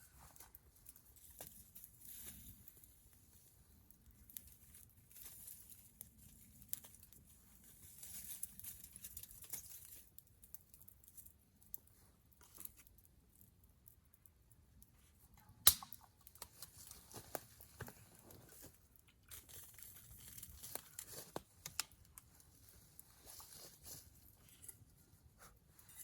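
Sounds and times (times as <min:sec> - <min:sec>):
campfire crackling and popping: 0:00.4 - 0:24.8.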